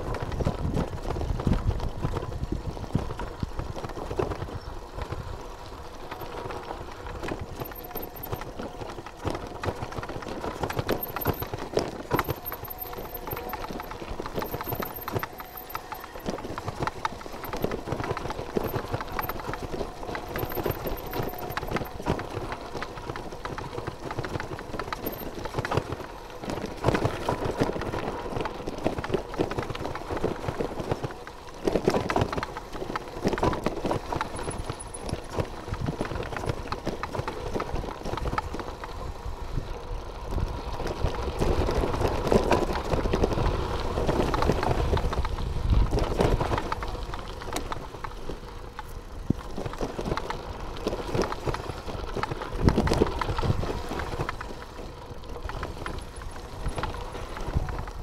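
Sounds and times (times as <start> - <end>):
bicycle rattling over rough ground: 0.0 - 58.0
bicycle tyres crunching on gravel: 0.0 - 58.0.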